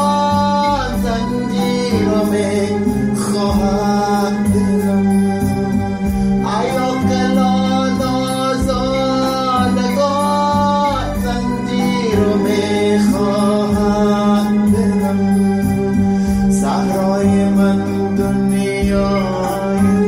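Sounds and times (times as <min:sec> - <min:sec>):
person singing: 0:00.0 - 0:20.0.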